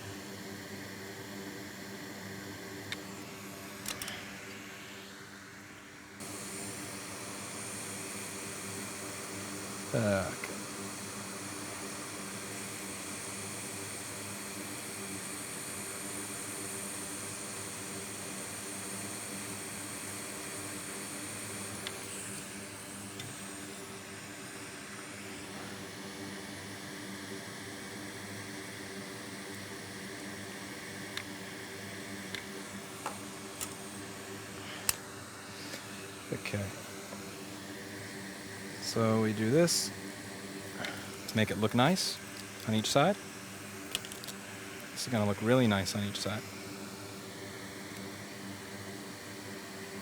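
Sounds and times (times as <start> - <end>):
faint high whine: 0.0 - 50.0
fan whirring: 0.0 - 50.0
low electrical hum: 0.0 - 50.0.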